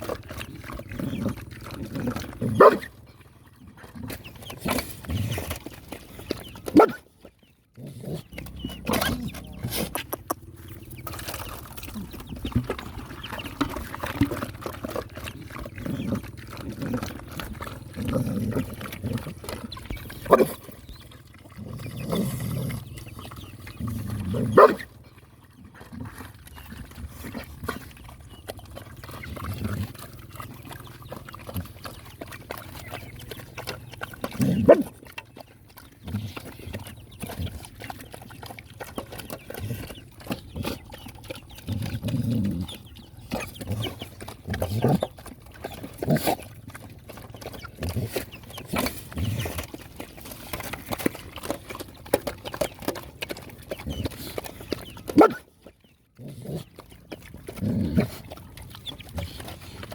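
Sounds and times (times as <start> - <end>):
dogs eating and scrapping: 0.0 - 59.9.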